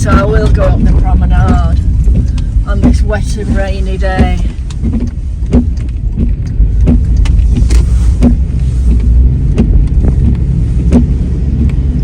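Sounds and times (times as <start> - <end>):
car cabin road rumble: 0.0 - 12.0
windscreen wiper knocking: 0.0 - 12.0.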